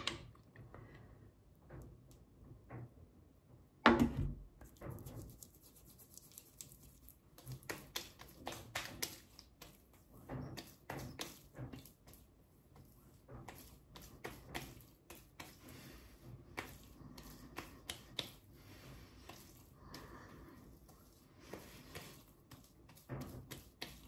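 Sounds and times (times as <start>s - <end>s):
hand rubbing skin: 4.7s - 24.0s.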